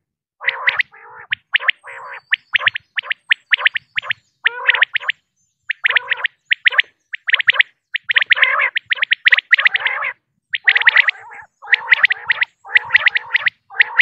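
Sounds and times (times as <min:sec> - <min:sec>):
quail chirping: 0:00.4 - 0:14.0.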